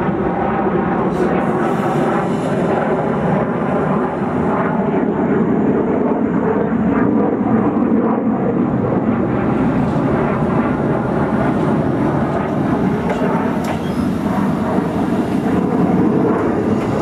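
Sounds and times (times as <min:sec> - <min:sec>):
jet aircraft flying over: 0:00.0 - 0:17.0.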